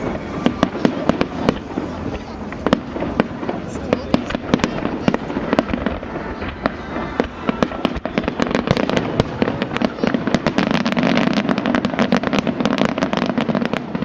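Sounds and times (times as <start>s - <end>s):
fireworks cracking and banging: 0.0s - 14.0s.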